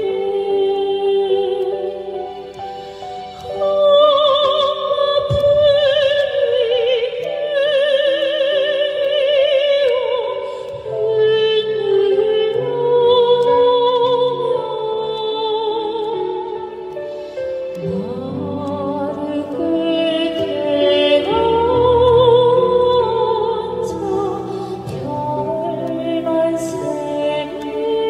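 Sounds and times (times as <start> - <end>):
woman singing operatically: 0.0 - 2.3, 3.5 - 17.0, 17.7 - 28.0.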